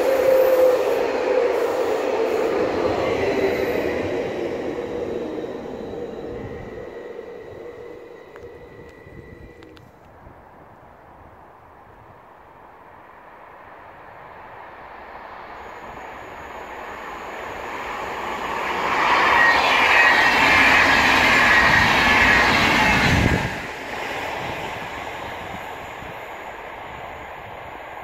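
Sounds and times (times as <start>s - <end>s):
train wheels rushing on rails: 0.0s - 10.1s, 14.4s - 28.0s.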